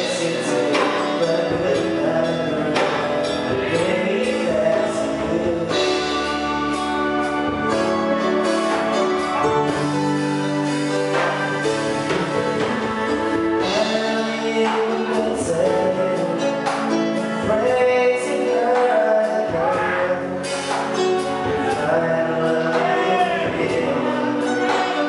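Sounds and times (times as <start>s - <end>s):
drum kit: 0.0s - 25.0s
person singing: 0.0s - 25.0s
sustained keyboard chords: 0.0s - 25.0s.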